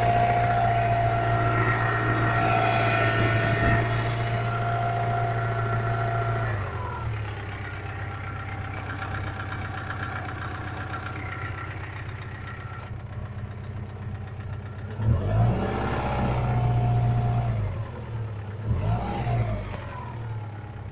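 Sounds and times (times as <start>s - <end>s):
car engine idling and revving: 0.0s - 20.9s
engine knock: 0.0s - 20.9s.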